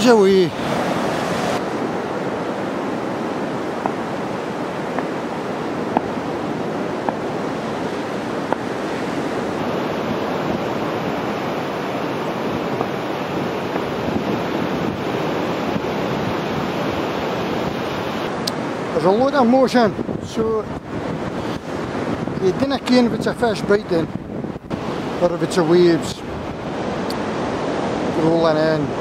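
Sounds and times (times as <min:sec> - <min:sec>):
sea surf breaking on beach: 0:00.0 - 0:29.0.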